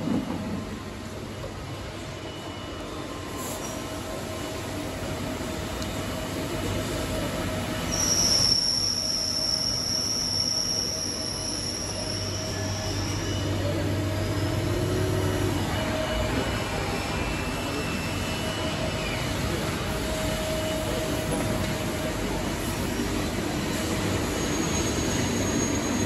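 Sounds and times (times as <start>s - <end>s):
high-pitched whine: 2.2s - 26.0s.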